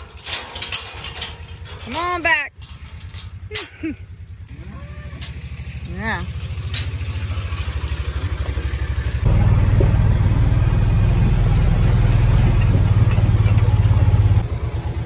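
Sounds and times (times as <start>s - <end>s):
vehicle engine chugging: 1.3s - 15.0s.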